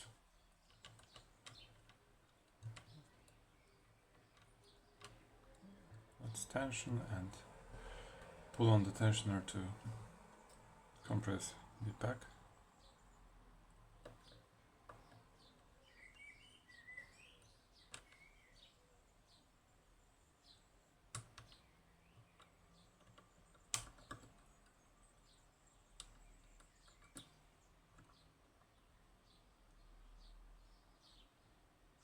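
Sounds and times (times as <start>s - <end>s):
faint bird chirps: 0.0s - 8.2s, 14.1s - 32.0s.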